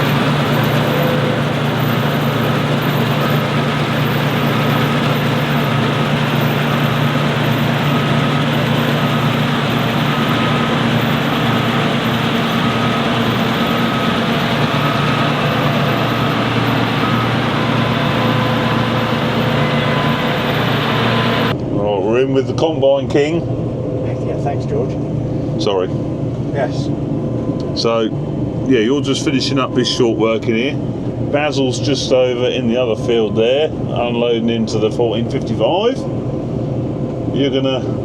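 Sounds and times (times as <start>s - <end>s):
combine harvester engine drone: 0.0s - 21.9s, 23.0s - 38.0s.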